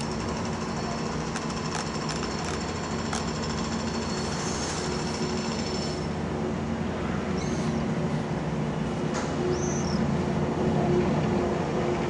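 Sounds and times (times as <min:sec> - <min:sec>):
diesel train engine idling: 0:00.0 - 0:11.8.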